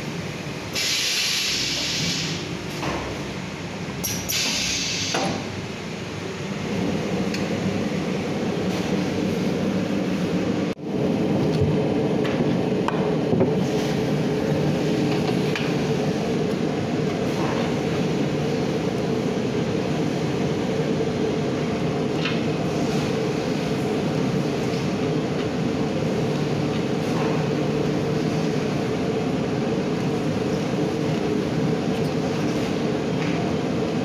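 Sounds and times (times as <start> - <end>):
factory machinery hum and whir: 0.0 - 34.0.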